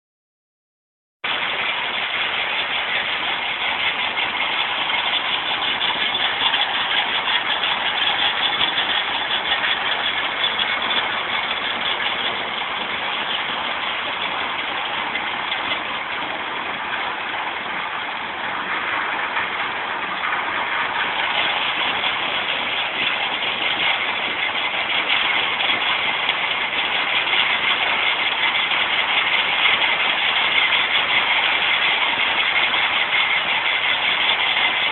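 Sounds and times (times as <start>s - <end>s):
stone crusher machine running: 1.2s - 34.9s.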